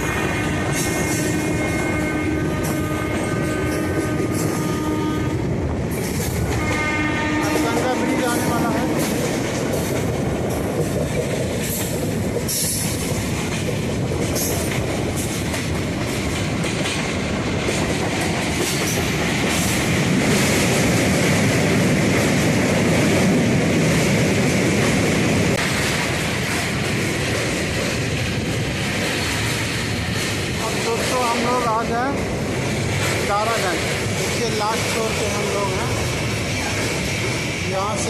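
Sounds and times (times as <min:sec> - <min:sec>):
train wheels clattering on rails: 0:00.0 - 0:38.0.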